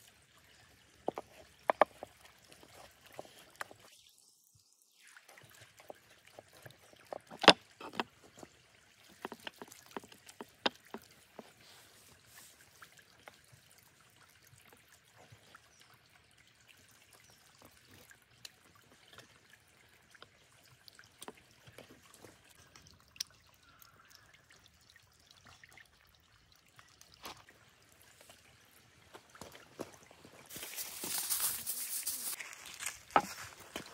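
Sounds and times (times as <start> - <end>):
faint stream trickling: 0.0 - 33.9.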